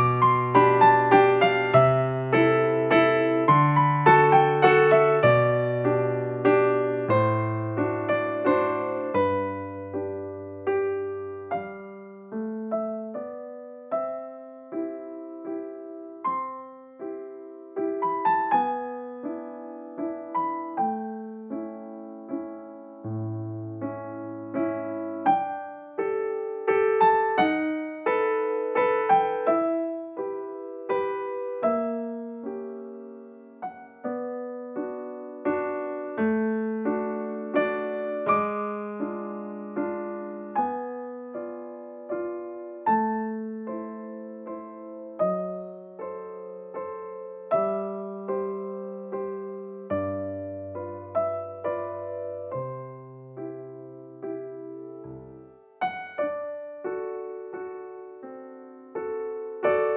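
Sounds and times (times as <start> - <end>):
gentle electric piano music: 0.0 - 59.9.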